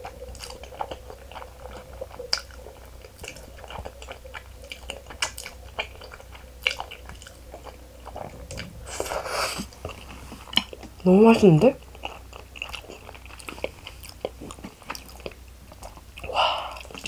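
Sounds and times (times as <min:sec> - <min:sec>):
wet chewing: 0:00.0 - 0:11.1, 0:11.8 - 0:17.0.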